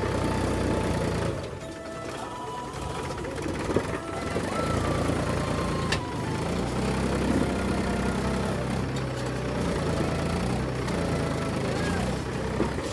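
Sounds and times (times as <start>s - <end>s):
tractor diesel engine under load: 0.0s - 12.9s.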